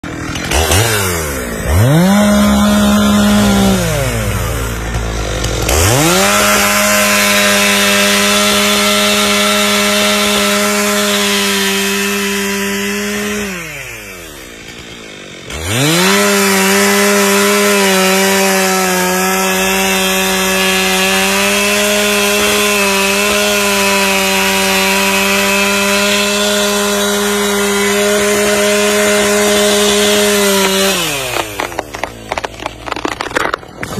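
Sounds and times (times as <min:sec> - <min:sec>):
chainsaw cutting into a tree: 0:00.0 - 0:33.9.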